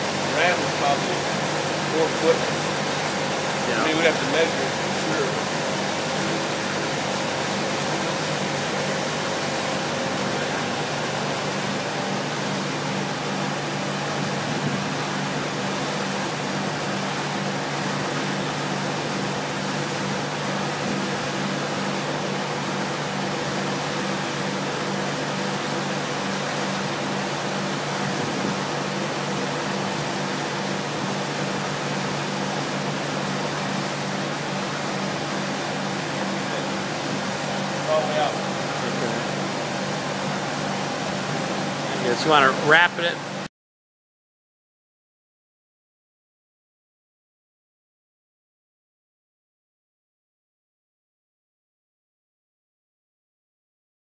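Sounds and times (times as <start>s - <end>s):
machinery humming: 0.0s - 43.5s.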